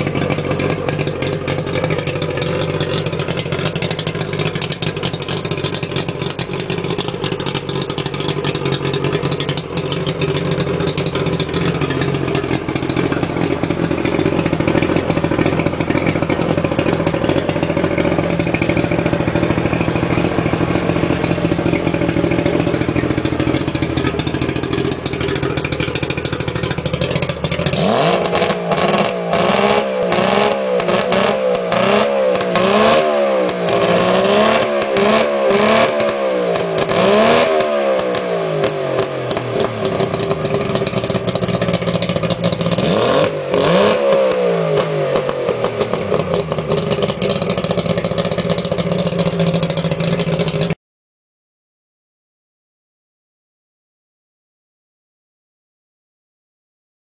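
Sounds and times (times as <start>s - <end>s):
outboard motor revving: 0.0s - 50.8s.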